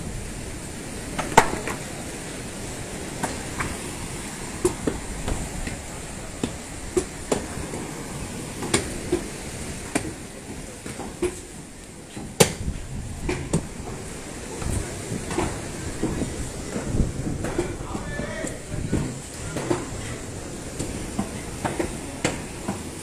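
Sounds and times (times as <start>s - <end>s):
surf: 0.0s - 23.0s
wind: 0.0s - 23.0s.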